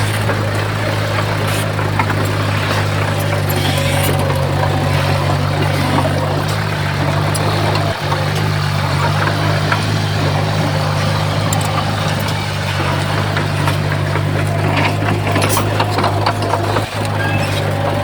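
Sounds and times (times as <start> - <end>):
heavy diesel engine running: 0.0 - 18.0
light clicks and clanks: 0.0 - 18.0.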